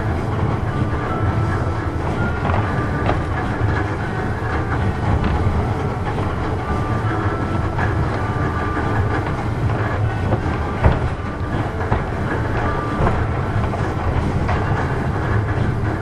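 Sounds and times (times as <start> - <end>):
clicks: 0.0 - 16.0
wheels rumbling on rails: 0.0 - 16.0.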